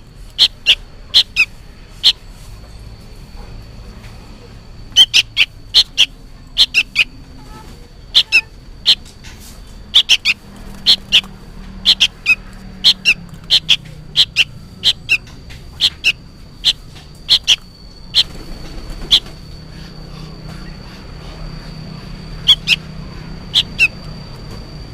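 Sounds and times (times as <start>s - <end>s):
fledgling bird sharp calls: 0.0s - 2.4s, 4.8s - 24.4s.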